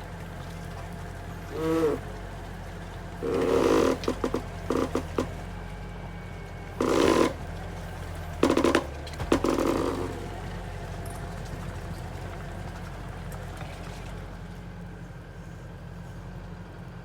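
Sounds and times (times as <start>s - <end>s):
engine surging under load: 0.0s - 17.0s
skid steer engine running: 0.0s - 17.0s.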